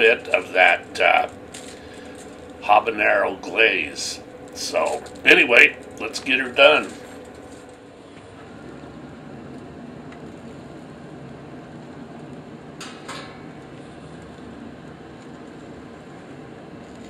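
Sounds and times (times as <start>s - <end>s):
fan-like hum: 0.0s - 17.0s.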